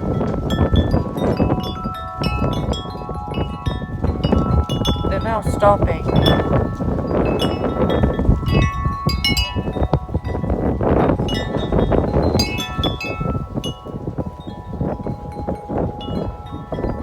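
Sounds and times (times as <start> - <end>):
low rumble of wind: 0.0 - 17.0
wind chime ringing: 0.0 - 17.0.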